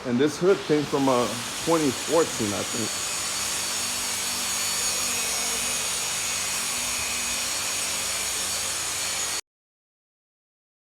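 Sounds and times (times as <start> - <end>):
mechanical whirring and hiss: 0.4 - 9.4.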